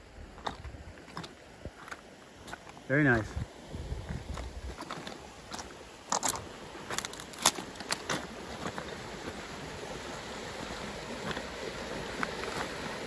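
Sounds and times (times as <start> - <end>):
footsteps on river stones: 0.0 - 9.6, 10.6 - 13.0
river water rushing: 0.0 - 13.0.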